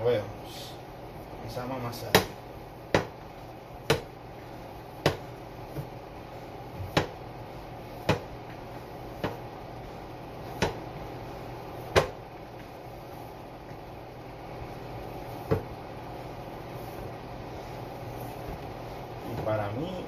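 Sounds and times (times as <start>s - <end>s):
faint room hiss: 0.0s - 20.0s
hand kneading dough in bowl: 1.4s - 20.0s.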